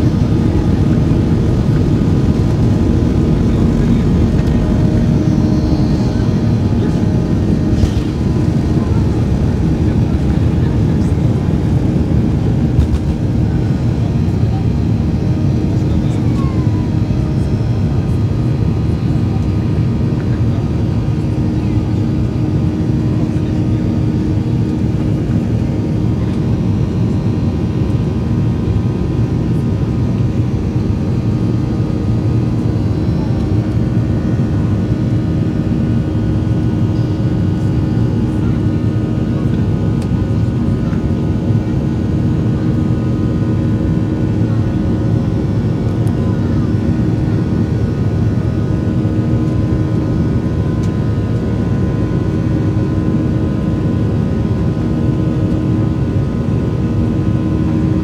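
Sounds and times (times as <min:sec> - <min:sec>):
jet engine drone in cabin: 0:00.0 - 0:58.0.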